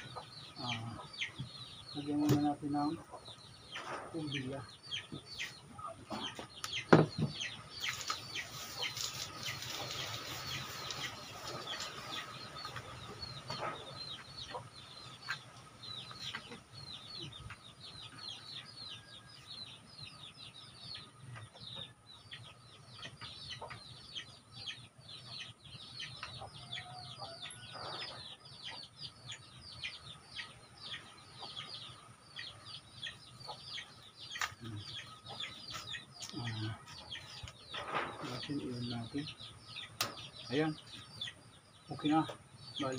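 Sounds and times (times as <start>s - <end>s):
chickens clucking and peeping: 0.0s - 42.9s.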